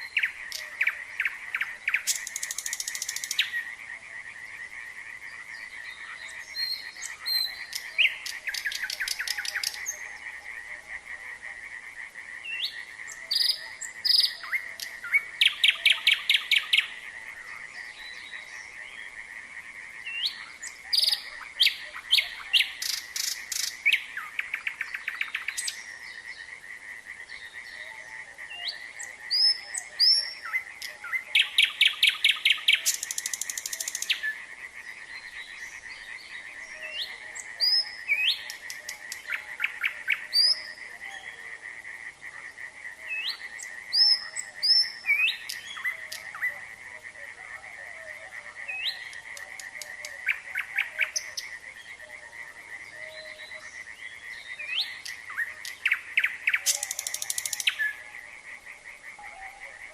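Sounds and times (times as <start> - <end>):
frogs calling: 0.0 - 59.9
nightingale singing: 0.0 - 59.9.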